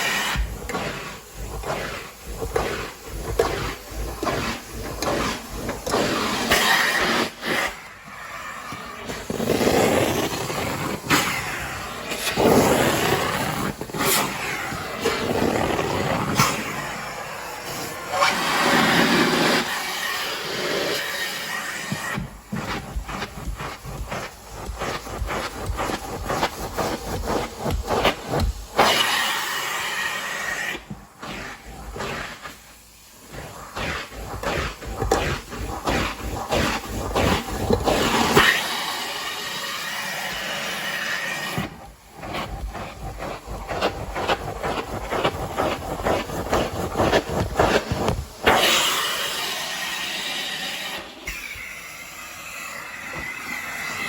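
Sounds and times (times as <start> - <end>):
carpet scrubbing noise: 0.0 - 54.0
hissing spray: 0.0 - 54.0.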